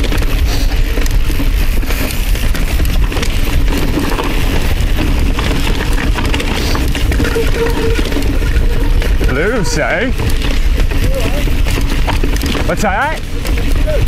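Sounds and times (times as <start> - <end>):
bike clicking and rattling: 0.0 - 14.0
tyres crunching over rock: 0.0 - 14.0
wind rumble on microphone: 0.0 - 14.0.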